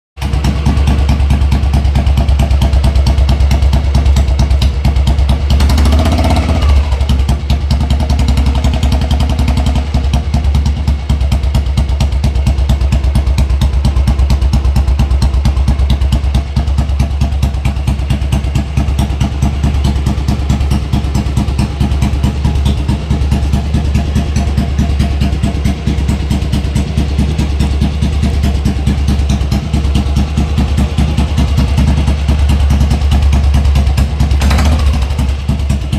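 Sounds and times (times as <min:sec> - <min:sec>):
motorcycle engine idling: 0:00.2 - 0:35.9.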